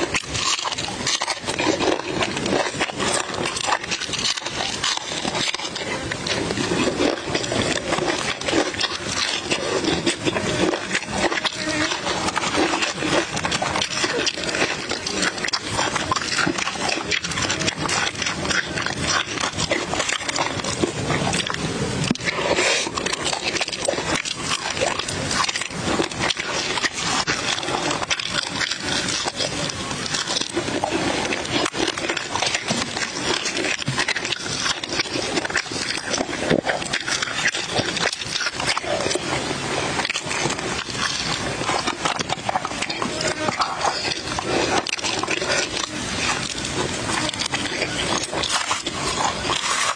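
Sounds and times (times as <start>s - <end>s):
person chewing and lip-smacking: 0.0s - 49.9s.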